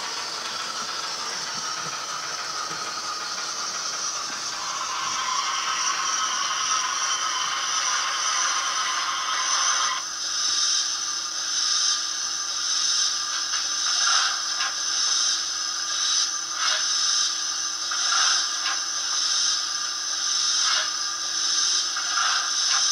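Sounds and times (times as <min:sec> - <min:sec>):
steam hiss with surges: 0:00.0 - 0:22.9.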